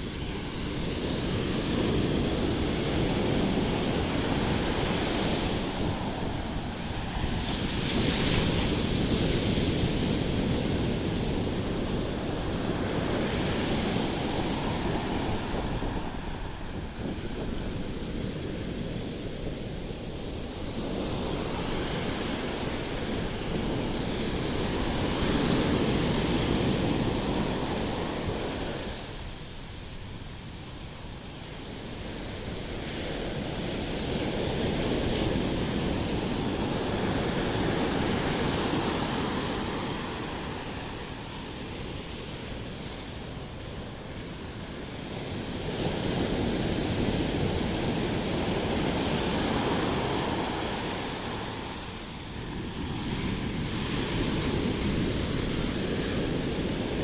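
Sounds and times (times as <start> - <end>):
sea waves washing onto beach: 0.0 - 57.0
wind on microphone: 0.0 - 57.0.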